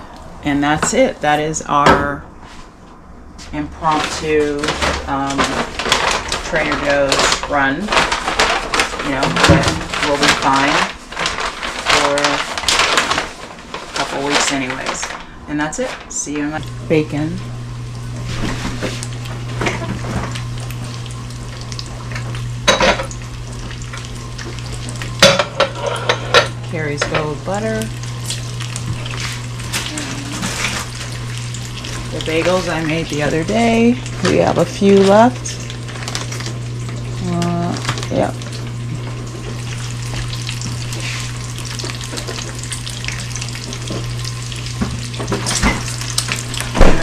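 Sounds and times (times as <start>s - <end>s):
steady low hum: 0.0s - 47.0s
bacon sizzling in a frying pan: 3.8s - 47.0s.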